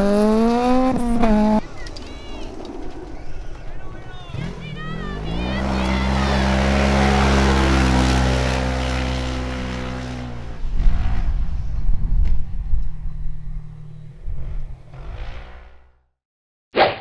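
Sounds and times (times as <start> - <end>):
rally car engine passing: 0.0 - 1.8, 2.4 - 12.0, 12.9 - 16.0
low rumbling: 0.0 - 16.0.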